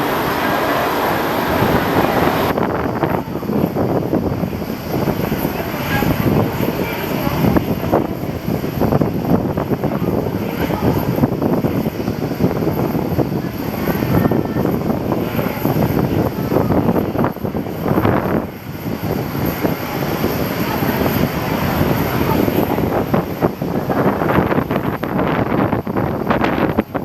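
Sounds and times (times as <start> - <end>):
airliner engines running: 0.0 - 27.0
wind buffeting microphone: 0.0 - 27.0.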